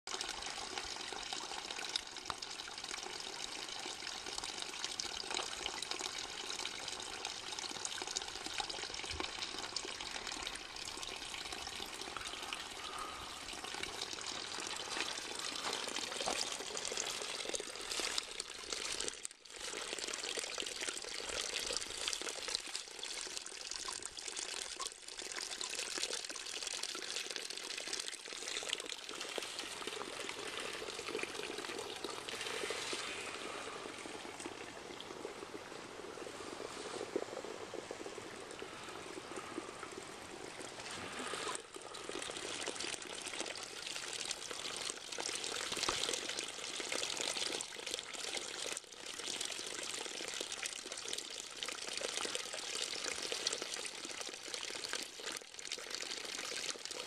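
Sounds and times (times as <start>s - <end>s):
water pouring into a creek: 0.0s - 57.0s.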